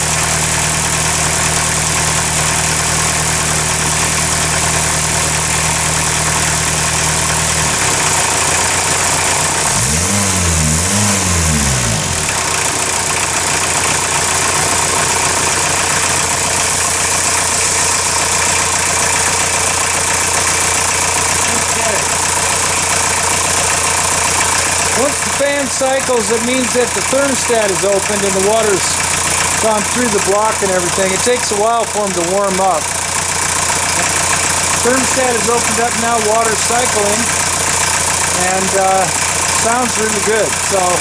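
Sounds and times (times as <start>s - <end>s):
car engine idling: 0.0s - 41.0s
car engine revving: 0.0s - 41.0s.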